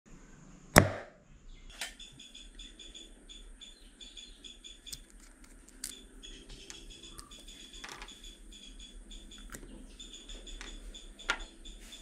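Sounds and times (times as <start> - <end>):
insect chirping: 1.7 - 12.0.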